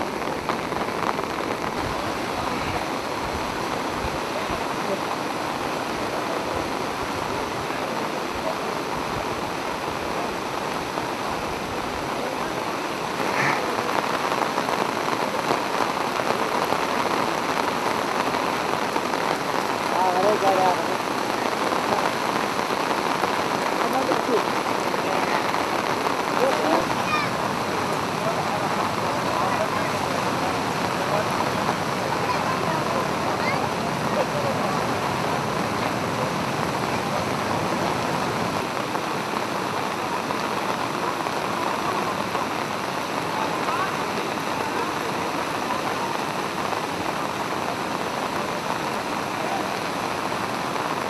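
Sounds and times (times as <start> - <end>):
flood stream rushing: 0.0 - 51.0.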